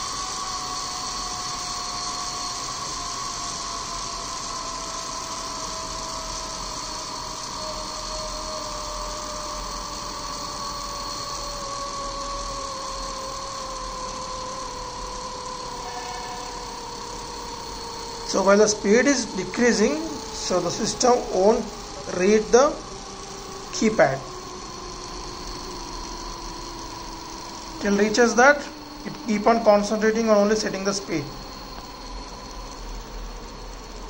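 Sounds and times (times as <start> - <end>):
electric motor whine: 0.0 - 34.0.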